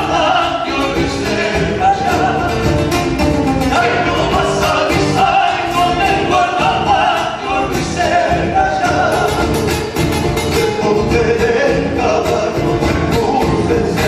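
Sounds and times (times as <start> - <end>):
folk music: 0.0 - 14.0.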